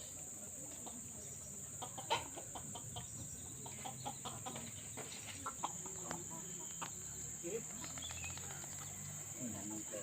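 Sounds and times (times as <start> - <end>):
chickens clucking: 0.1 - 10.0.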